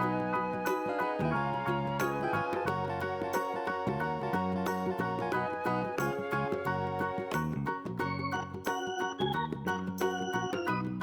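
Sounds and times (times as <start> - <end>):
cheerful keyboard music: 0.0 - 11.0.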